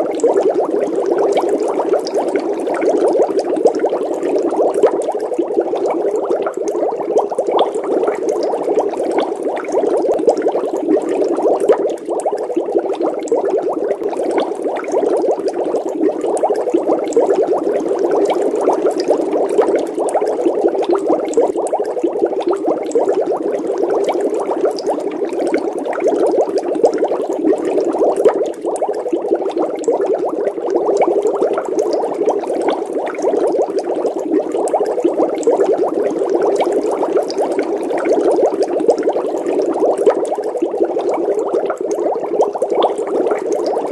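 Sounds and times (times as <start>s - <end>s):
water bubbling: 0.0s - 43.9s.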